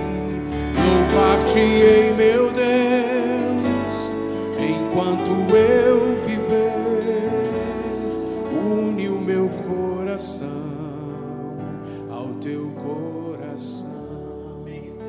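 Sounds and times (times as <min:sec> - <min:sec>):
soft instrumental backing: 0:00.0 - 0:15.0
voices singing worship song: 0:00.0 - 0:15.0.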